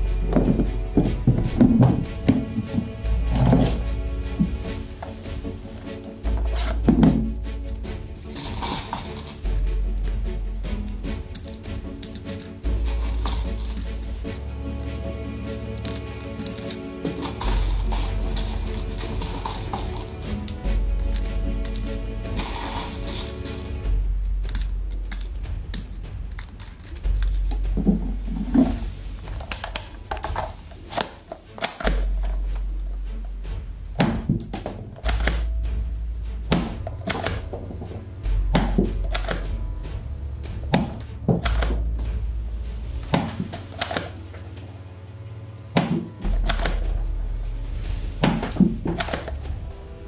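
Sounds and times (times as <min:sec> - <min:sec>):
background music with deep bass: 0:00.0 - 0:50.0.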